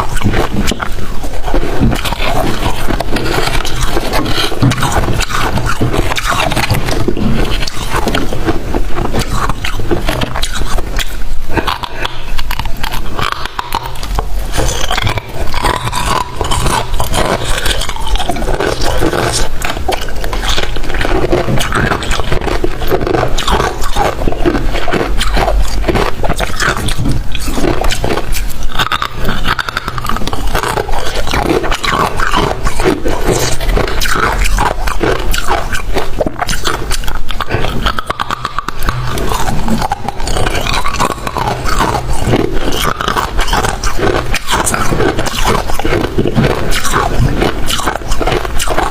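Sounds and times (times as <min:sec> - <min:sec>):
frost being chewed: 0:00.0 - 0:48.9.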